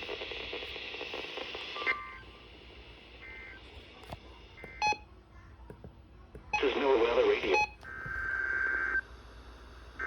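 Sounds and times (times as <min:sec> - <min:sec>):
radio hiss: 0:00.0 - 0:04.8, 0:06.6 - 0:10.0.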